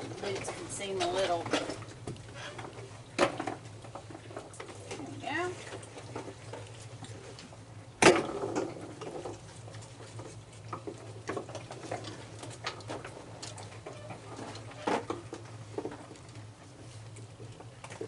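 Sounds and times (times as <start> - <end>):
raccoons eating clicks and crunches: 0.0 - 18.0.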